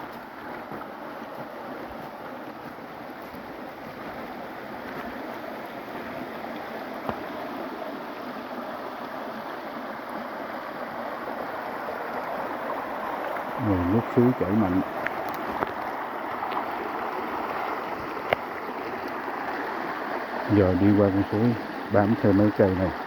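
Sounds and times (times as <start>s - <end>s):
forest stream rushing: 0.0s - 23.0s.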